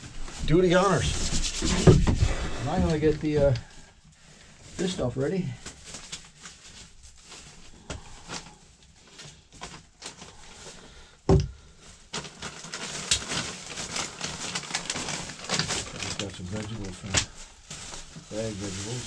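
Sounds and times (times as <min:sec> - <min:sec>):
rustling and clatter: 0:00.0 - 0:19.0.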